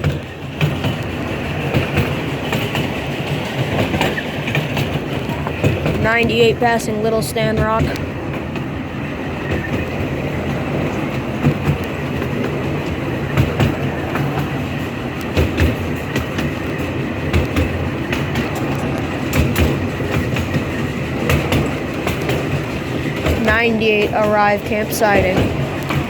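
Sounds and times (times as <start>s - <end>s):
train wheels rumbling on track: 0.0s - 26.0s
wheels clicking over rail joints: 0.0s - 26.0s.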